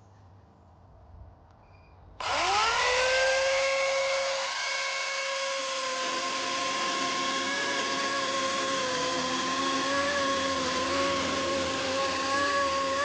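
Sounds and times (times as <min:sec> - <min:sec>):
electric chainsaw whine: 0:02.2 - 0:13.0.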